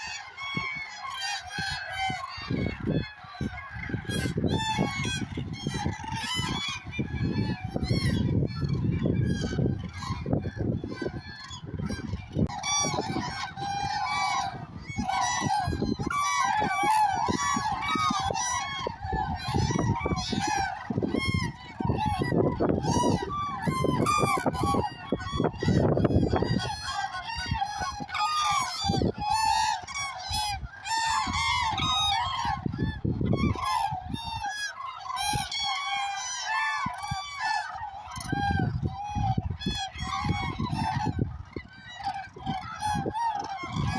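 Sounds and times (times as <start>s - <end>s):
cranes trumpeting calls: 0.0s - 43.9s.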